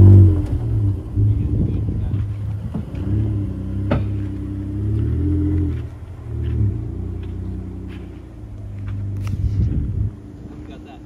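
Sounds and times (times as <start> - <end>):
truck engine climbing a hill: 0.0 - 11.0.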